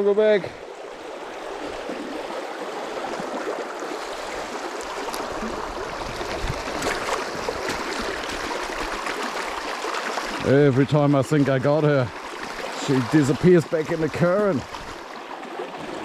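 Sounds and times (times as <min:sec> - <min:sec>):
river rushing over stones: 0:00.6 - 0:16.0.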